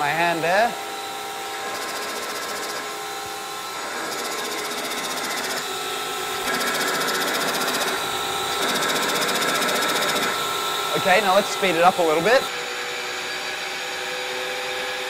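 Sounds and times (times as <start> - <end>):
turbocharger high whine: 0.0 - 15.0.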